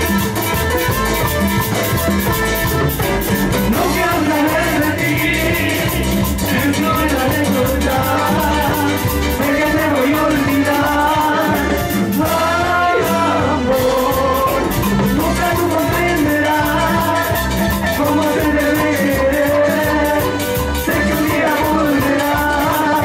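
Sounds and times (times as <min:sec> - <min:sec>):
latin dance band playing: 0:00.0 - 0:23.0.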